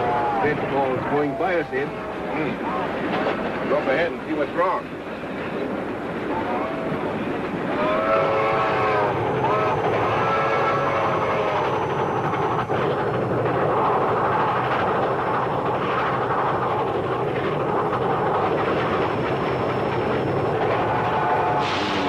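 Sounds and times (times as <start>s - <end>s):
train rumbling hiss: 0.0s - 22.0s.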